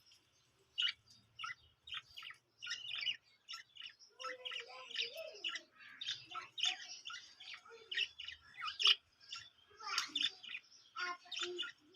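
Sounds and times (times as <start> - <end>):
budgerigars chirping and chattering: 0.0 - 11.9.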